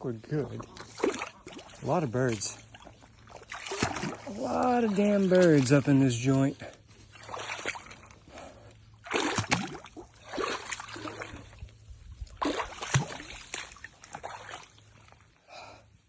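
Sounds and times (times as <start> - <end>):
legs sloshing through water: 0.2 - 15.4.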